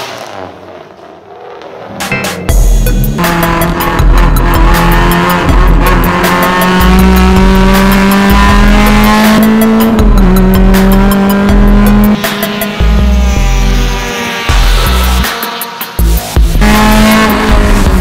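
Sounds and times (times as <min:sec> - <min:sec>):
race car engine at high revs: 0:02.8 - 0:18.0.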